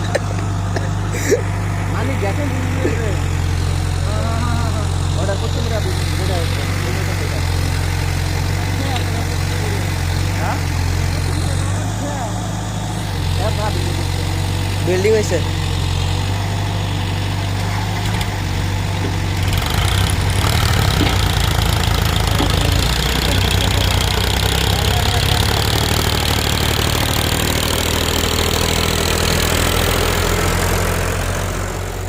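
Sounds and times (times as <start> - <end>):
diesel machinery engine running: 0.0 - 32.0.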